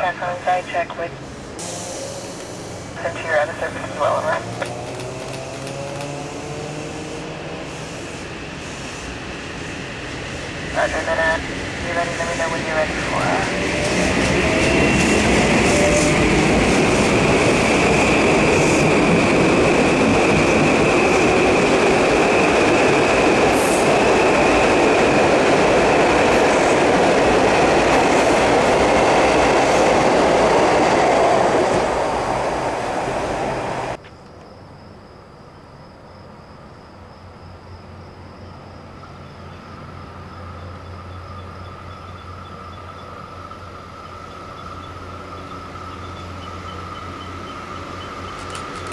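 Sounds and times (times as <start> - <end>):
train wheels rushing on rail: 0.0 - 34.0, 38.6 - 48.9.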